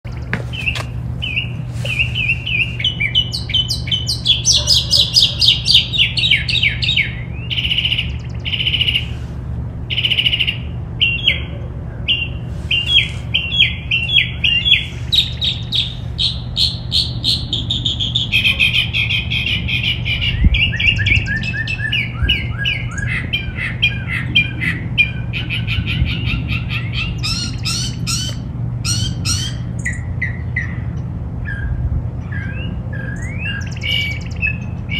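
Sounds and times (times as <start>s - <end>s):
songbirds chirping: 0.0s - 34.9s
steady low hum: 0.1s - 34.9s.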